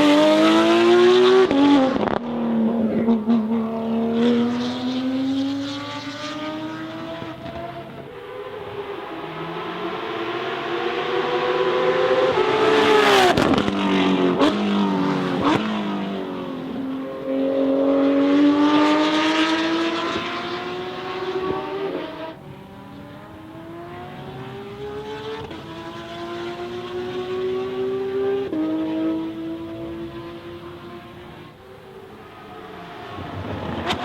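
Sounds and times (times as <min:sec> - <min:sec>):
race car engine accelerating: 0:00.0 - 0:34.0.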